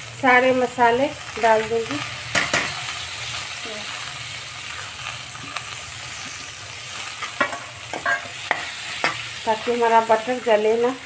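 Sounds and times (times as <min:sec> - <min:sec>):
spices sizzling in butter: 0:00.0 - 0:11.0.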